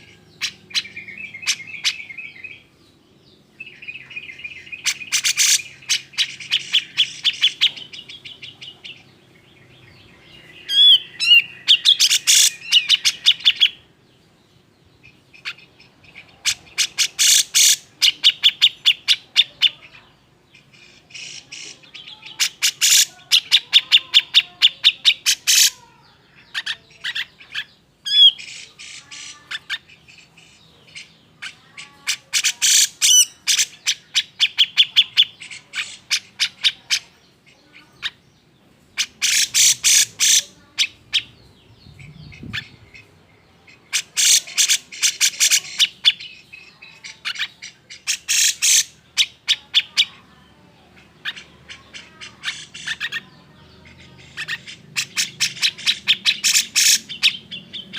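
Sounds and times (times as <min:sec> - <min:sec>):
bird harsh repeated calls: 0:00.0 - 0:02.8, 0:03.5 - 0:14.0, 0:15.0 - 0:57.9.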